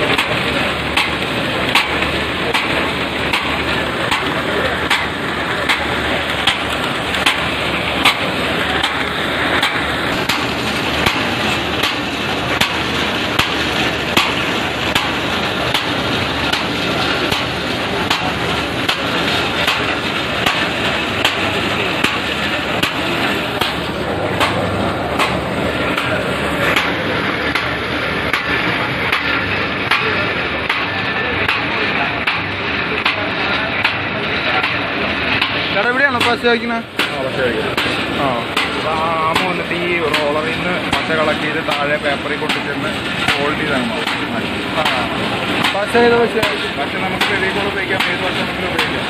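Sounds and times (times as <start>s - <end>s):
steady mechanical noise: 0.0s - 49.0s.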